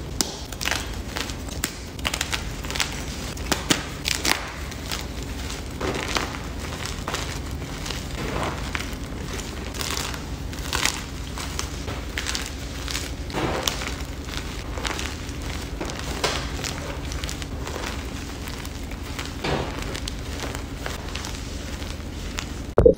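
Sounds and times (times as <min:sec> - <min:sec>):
chalk chunks snapping: 0:00.0 - 0:22.6.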